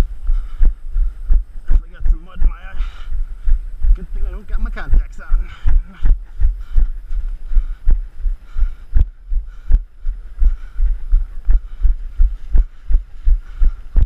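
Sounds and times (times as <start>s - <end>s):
heavy footsteps: 0.0s - 14.0s.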